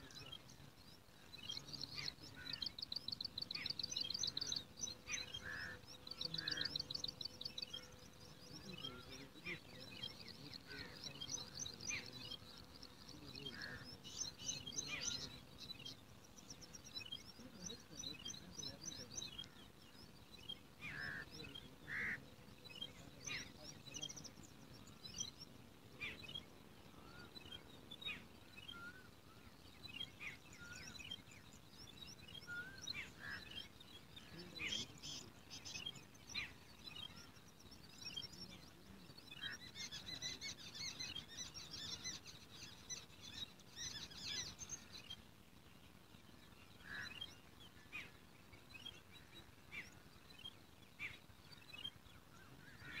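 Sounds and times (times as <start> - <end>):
faint low background noise: 0.0 - 53.0
small birds chirping: 0.0 - 53.0.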